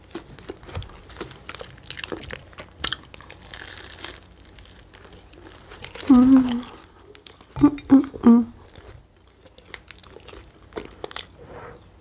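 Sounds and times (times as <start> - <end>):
chewing crunchy pastry: 0.0 - 12.0.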